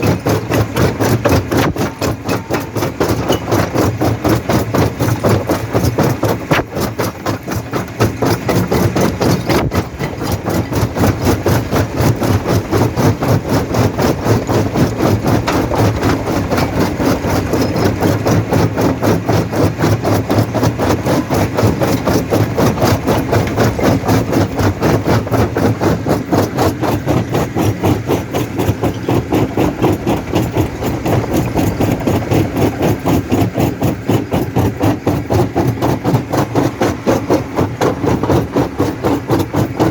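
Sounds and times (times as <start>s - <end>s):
rock crusher pounding: 0.0s - 39.9s.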